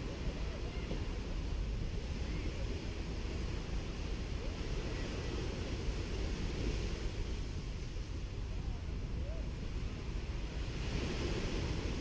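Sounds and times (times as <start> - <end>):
surf washing onto beach: 0.0 - 12.0.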